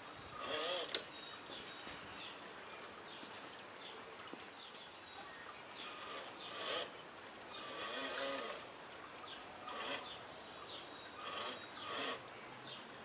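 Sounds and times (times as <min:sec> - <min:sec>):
birds chirping: 0:00.0 - 0:13.0
faint outdoor hiss: 0:00.0 - 0:13.0.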